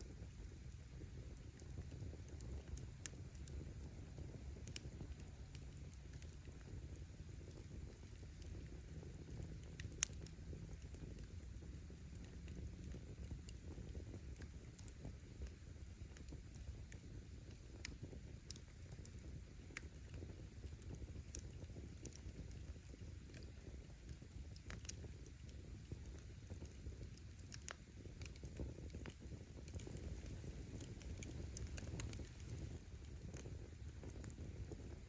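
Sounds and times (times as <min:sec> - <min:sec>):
campfire crackling and popping: 0:00.0 - 0:35.0
low steady rumble: 0:00.0 - 0:35.0.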